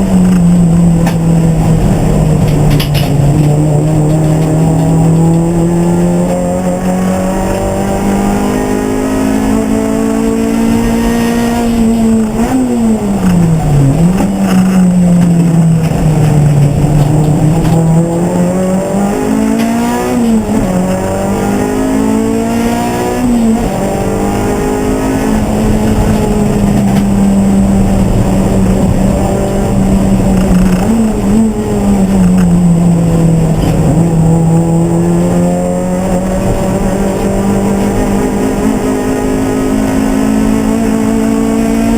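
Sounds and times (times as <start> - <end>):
race car engine: 0.0 - 41.9.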